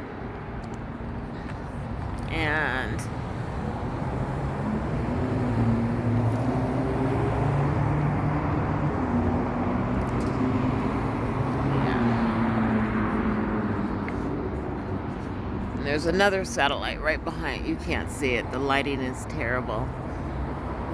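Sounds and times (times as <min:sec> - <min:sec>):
vehicle engine hum: 0:00.0 - 0:20.9.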